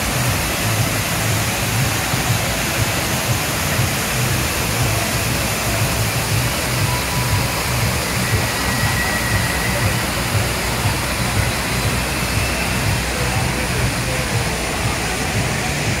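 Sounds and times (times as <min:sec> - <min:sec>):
fountain water splashing: 0:00.0 - 0:16.0
low pulsing rumble: 0:00.0 - 0:16.0.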